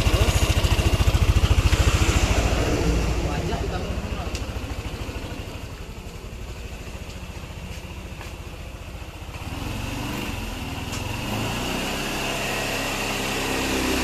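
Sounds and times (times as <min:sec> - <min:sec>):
scooter engine idling: 0:00.0 - 0:14.0.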